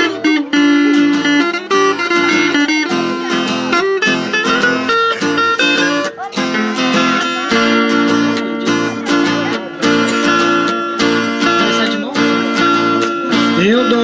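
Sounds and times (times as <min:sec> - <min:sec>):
acoustic guitars playing: 0:00.0 - 0:14.0.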